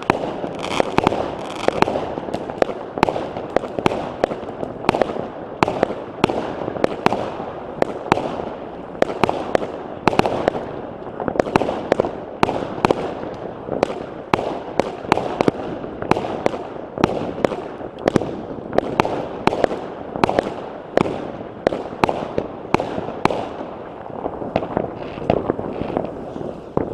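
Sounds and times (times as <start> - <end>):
fireworks bangs: 0.0 - 26.9.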